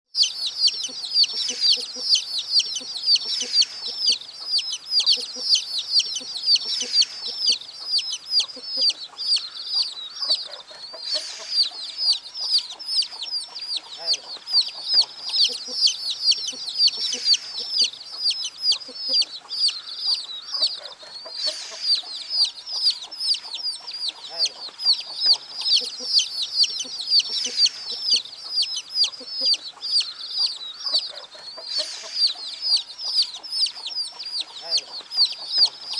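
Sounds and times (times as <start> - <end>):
chicks peeping: 0.2 - 35.9.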